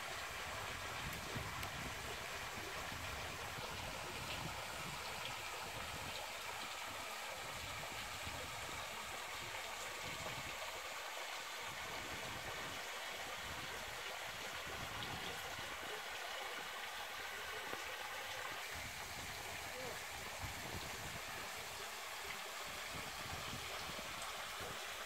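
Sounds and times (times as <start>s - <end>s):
spring water flowing: 0.0s - 25.0s.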